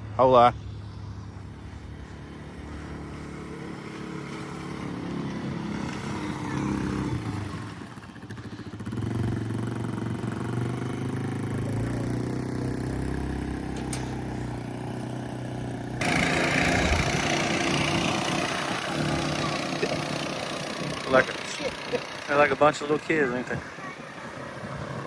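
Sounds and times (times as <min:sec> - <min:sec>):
louder noisier engine: 0:00.0 - 0:25.0
small engine running: 0:00.6 - 0:25.0.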